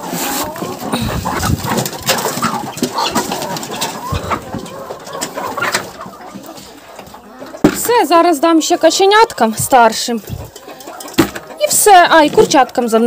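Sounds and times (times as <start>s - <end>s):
poultry clucking: 0.0s - 13.0s.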